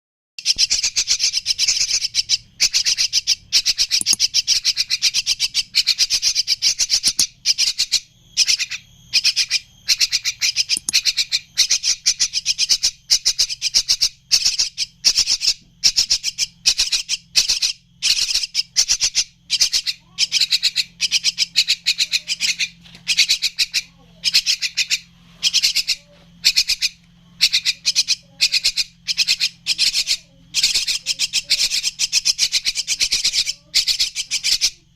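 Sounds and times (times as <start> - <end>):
birds calling in harsh rasps: 0.4 - 34.9.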